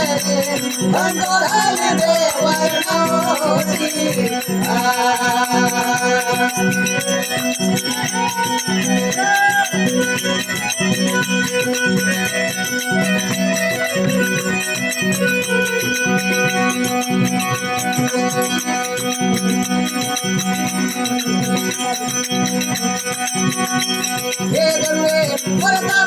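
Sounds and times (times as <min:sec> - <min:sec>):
rattling hand percussion: 0:00.0 - 0:26.0.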